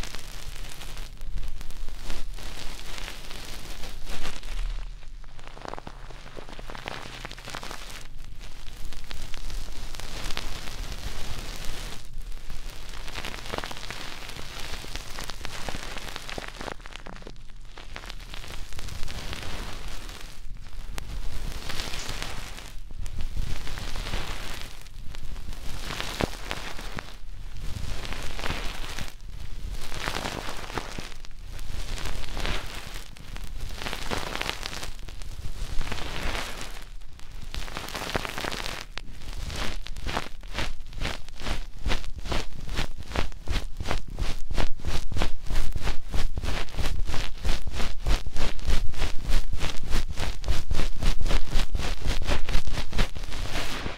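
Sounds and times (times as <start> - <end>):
scratchy rubbing on microphone: 0.0 - 53.9.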